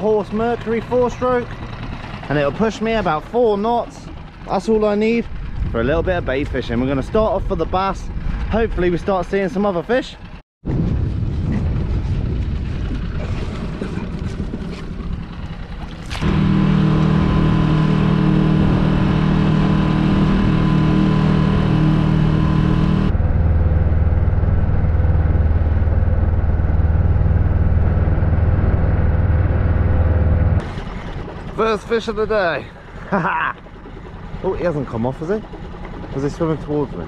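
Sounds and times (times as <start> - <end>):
outboard motor running: 0.0 - 10.4, 11.0 - 37.0.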